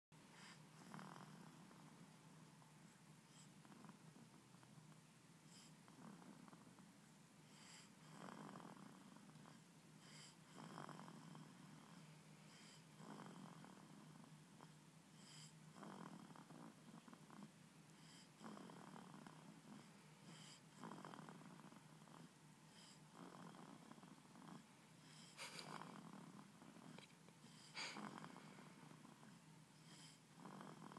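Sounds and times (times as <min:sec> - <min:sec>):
baby snoring faintly: 0:00.3 - 0:02.0, 0:02.8 - 0:30.9.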